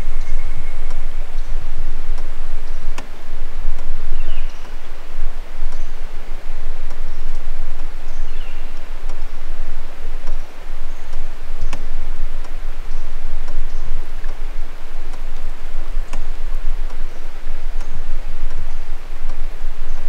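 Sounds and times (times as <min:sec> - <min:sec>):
sharp light ticks: 0:00.0 - 0:20.0
water trickling and dripping: 0:00.0 - 0:20.0.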